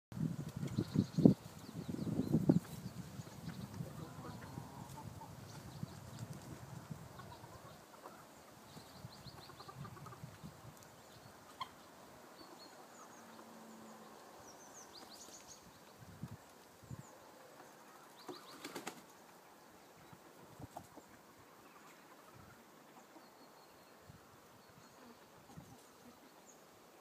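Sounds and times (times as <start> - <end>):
chickens clucking quietly: 0.4 - 27.0.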